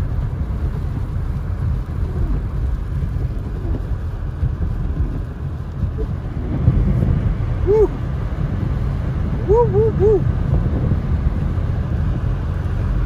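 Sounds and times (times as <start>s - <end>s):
car engine: 0.0s - 13.0s
tyres running through slush: 0.0s - 13.0s.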